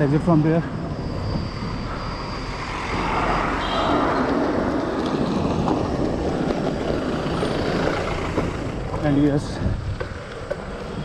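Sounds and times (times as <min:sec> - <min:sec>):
wind rushing over microphone: 0:00.0 - 0:11.0
motor vehicle passing: 0:01.4 - 0:11.0.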